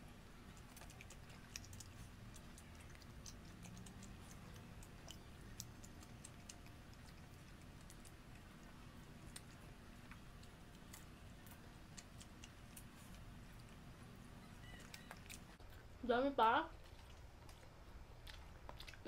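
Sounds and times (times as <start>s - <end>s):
chewing: 0.0s - 16.0s, 16.7s - 19.0s
low room hum: 0.0s - 19.0s.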